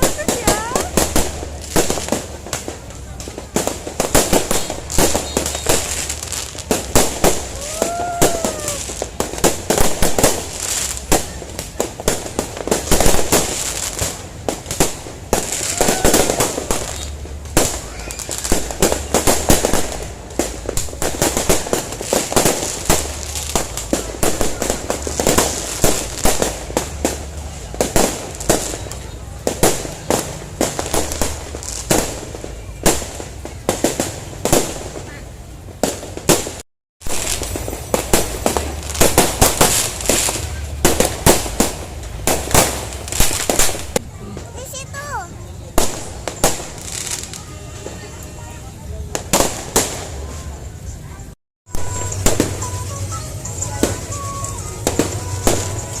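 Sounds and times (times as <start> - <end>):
people's voices: 0.0 - 36.5, 37.1 - 56.0
fireworks bangs and crackles: 0.0 - 56.0.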